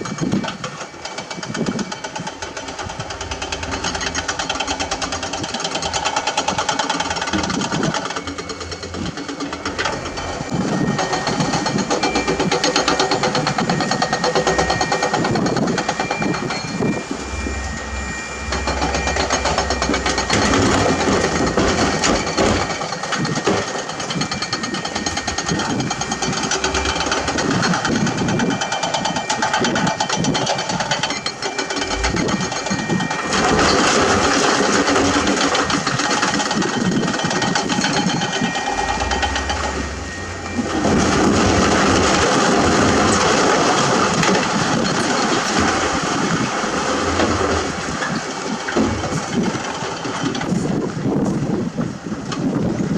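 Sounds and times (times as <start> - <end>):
diesel engine under load: 0.0 - 52.9.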